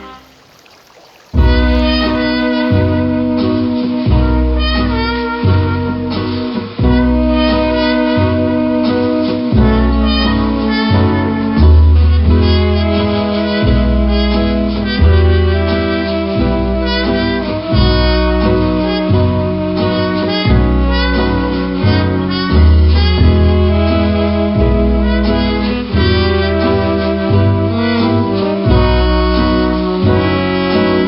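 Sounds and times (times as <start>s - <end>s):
mellow instrumental music: 0.0s - 31.0s.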